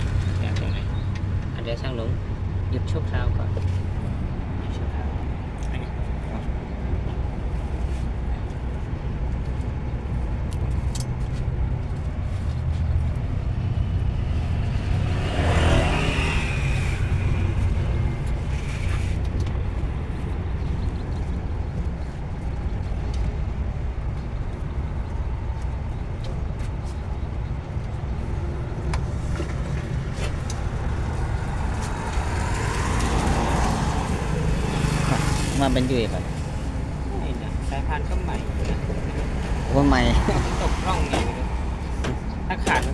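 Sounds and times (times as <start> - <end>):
vehicle engine rumbling: 0.0 - 42.9.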